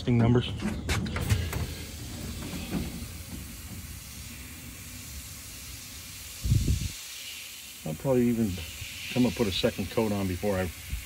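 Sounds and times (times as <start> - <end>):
aerosol can spraying: 1.6 - 11.0.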